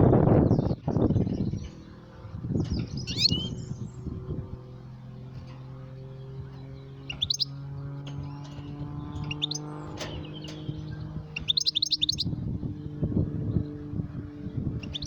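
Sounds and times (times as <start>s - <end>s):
steady low hum: 0.0s - 15.0s
goldfinch twittering: 0.4s - 12.9s, 14.8s - 15.0s.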